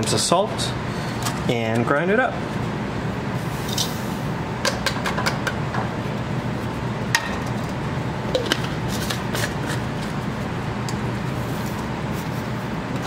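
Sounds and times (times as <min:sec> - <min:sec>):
exhaust fan rushing: 0:00.0 - 0:13.0.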